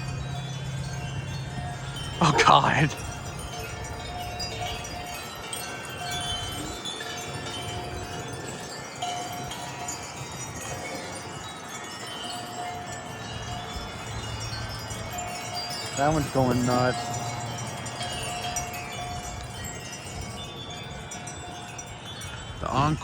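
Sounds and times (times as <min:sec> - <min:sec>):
low wind rumble: 0:00.0 - 0:23.0
wind chimes ringing: 0:00.0 - 0:23.0.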